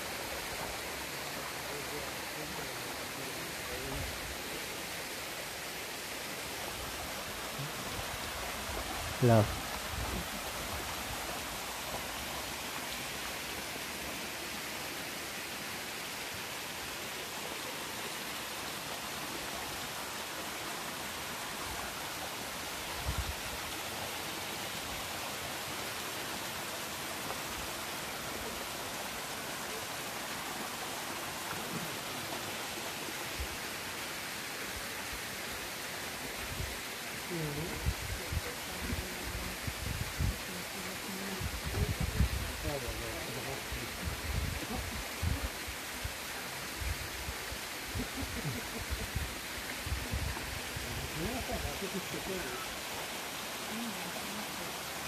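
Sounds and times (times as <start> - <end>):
waterfall splashing into pool: 0.0 - 55.0.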